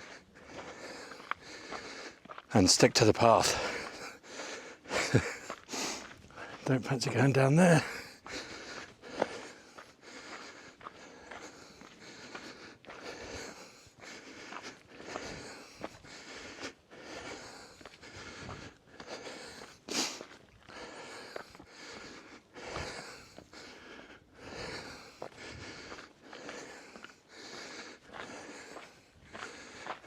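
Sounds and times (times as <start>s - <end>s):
person breathing hard: 0.0s - 2.5s, 3.3s - 6.6s, 7.6s - 30.0s.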